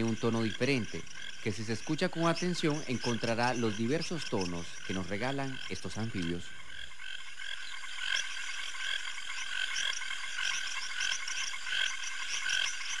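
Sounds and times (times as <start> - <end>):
frogs calling in chorus: 0.0 - 13.0.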